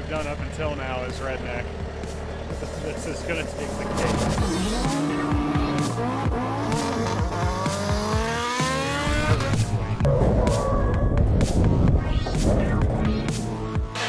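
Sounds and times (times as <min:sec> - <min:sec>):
music: 0:00.0 - 0:14.0
race car engine revving: 0:00.1 - 0:10.1, 0:11.4 - 0:14.0.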